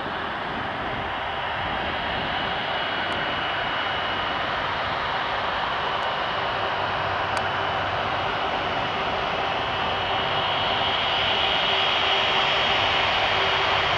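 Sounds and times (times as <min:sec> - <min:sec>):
jet engines hissing and whining: 0:00.0 - 0:13.9.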